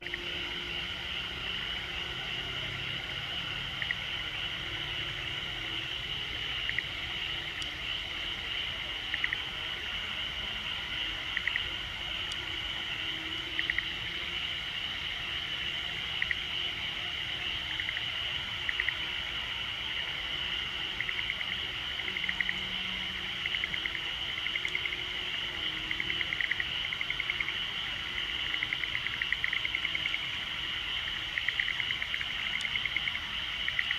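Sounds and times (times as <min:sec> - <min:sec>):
frogs pulsed calls: 0:00.0 - 0:33.9
high-pitched frog chorus: 0:00.0 - 0:33.9.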